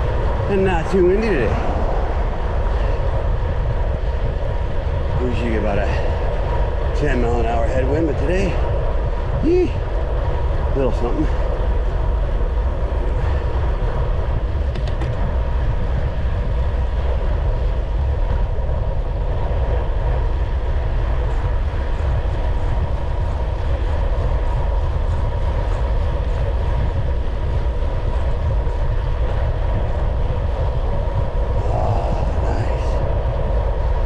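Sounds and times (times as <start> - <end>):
faint steady whine: 0.0 - 34.0
low road rumble: 0.0 - 34.0
wind buffeting microphone: 0.0 - 34.0.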